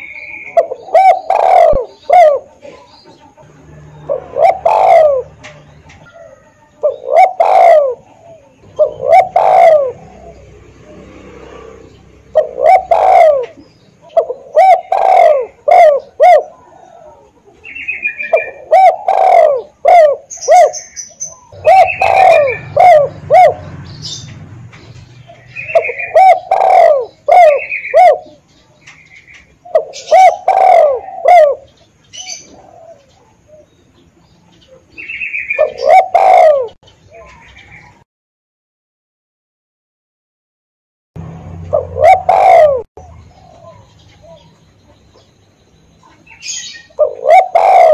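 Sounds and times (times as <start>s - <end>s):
dove cooing: 0.0s - 33.7s, 34.6s - 38.0s, 41.6s - 45.3s, 46.0s - 47.9s.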